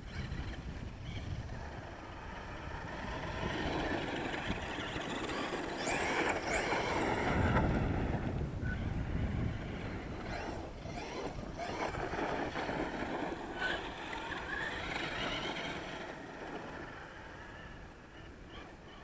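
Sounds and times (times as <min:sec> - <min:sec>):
toy truck engine revving: 0:00.0 - 0:19.0.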